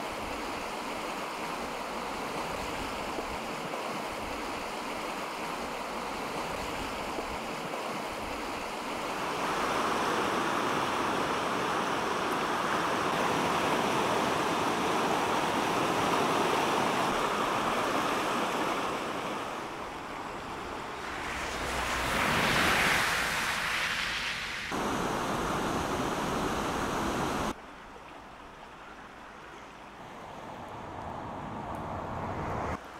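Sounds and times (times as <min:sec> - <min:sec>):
floodwater roaring: 0:00.0 - 0:32.9.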